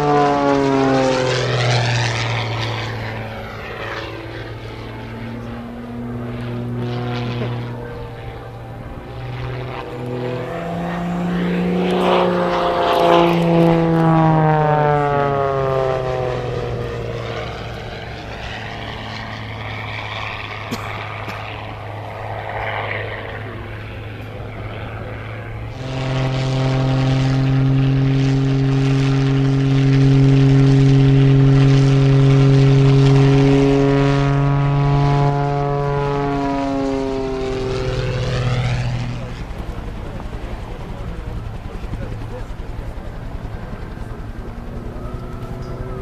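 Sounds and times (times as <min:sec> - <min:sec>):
propeller plane engine passing: 0:00.0 - 0:46.0.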